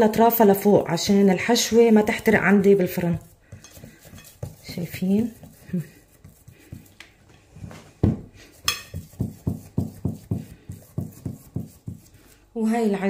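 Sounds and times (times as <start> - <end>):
hand patting dough: 0.8 - 12.4.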